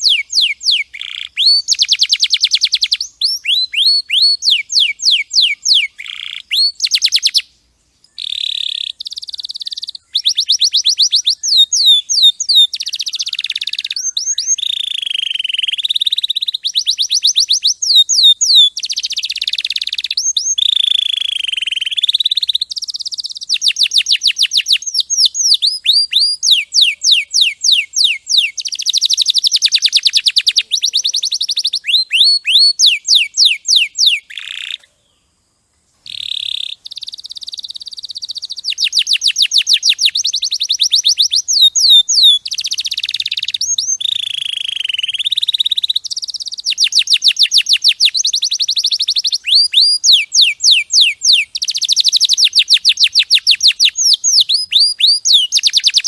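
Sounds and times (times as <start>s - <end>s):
canary singing trills: 0.0s - 7.5s, 8.1s - 34.9s, 36.0s - 56.0s.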